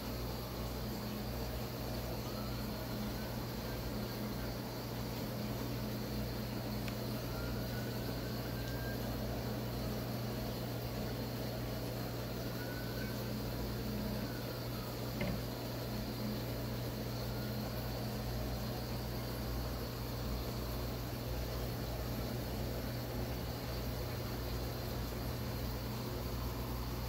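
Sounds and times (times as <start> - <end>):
aquarium air pumps humming: 0.0 - 27.0.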